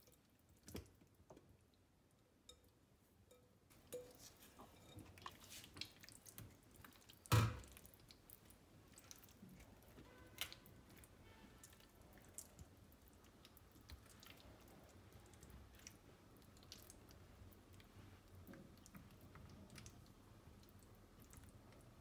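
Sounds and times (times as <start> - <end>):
wet squelching of food: 4.1 - 22.0.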